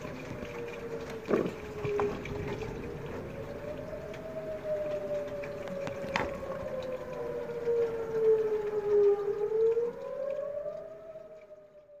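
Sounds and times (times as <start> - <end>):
tornado warning siren wailing: 0.0 - 12.0.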